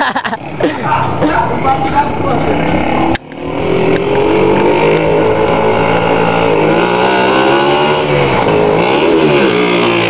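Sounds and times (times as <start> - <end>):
loud vehicle engine revving: 0.3 - 10.0.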